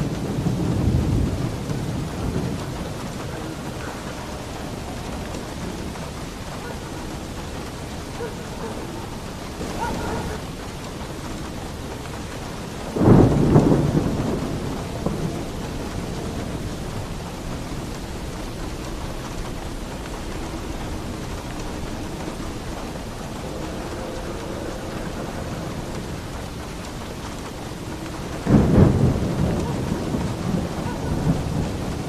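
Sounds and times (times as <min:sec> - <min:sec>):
heavy rain on a roof: 0:00.0 - 0:32.0
thunder rumbling: 0:00.0 - 0:32.0.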